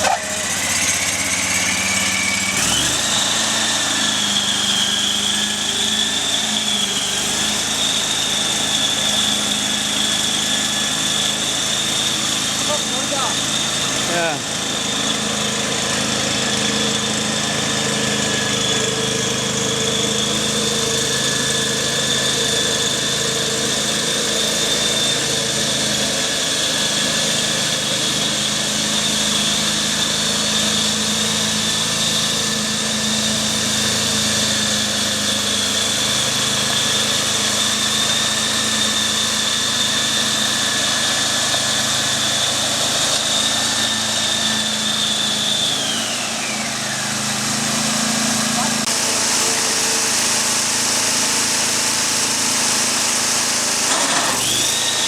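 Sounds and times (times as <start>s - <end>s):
tiller engine running: 0.0s - 55.0s.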